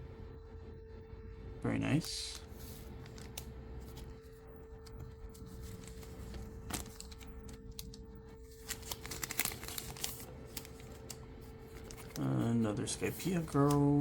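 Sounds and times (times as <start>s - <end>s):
faint steady hum: 0.0s - 14.0s
cards and wrappers crinkling: 2.0s - 14.0s.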